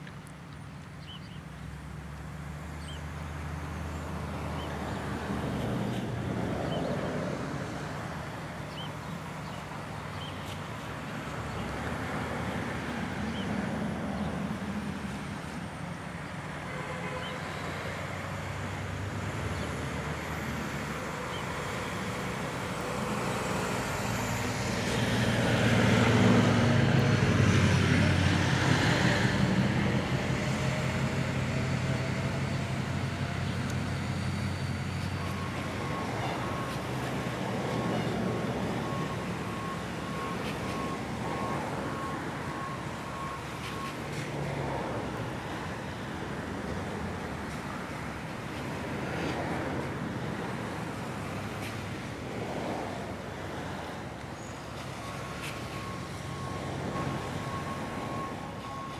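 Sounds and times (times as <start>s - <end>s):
vehicle engine rumble: 0.0s - 58.9s.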